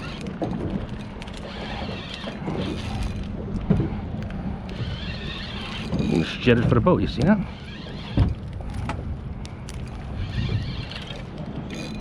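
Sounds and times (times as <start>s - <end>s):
fishing reel whirring and clicking: 0.0s - 3.4s, 4.2s - 6.4s, 7.1s - 12.0s.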